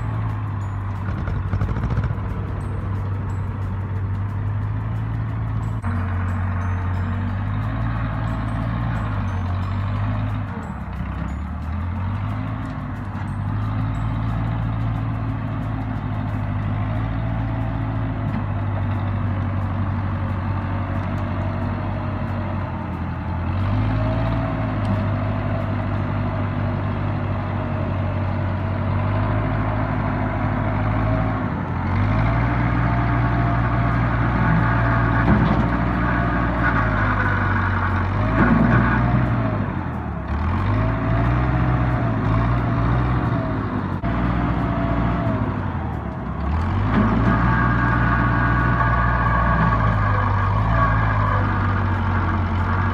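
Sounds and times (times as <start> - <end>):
backhoe diesel engine under load: 0.0 - 52.9.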